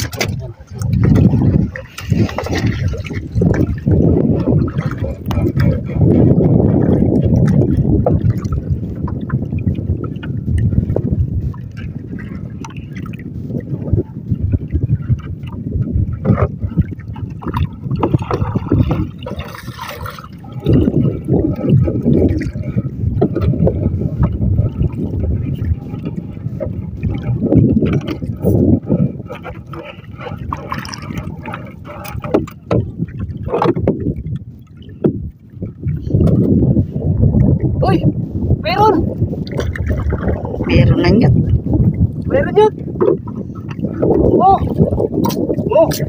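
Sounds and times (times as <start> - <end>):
water splashing against wooden hull: 0.0 - 46.0.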